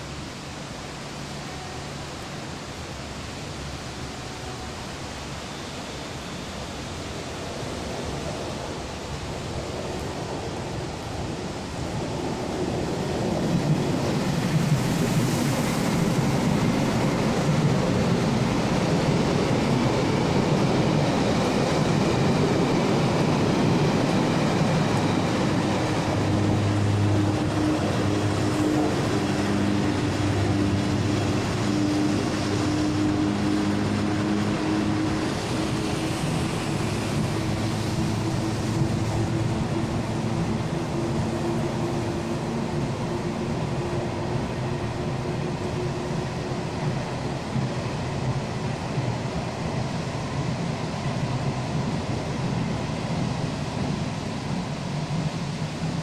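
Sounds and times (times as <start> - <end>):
train wheel-on-rail rumble: 0.0 - 56.0.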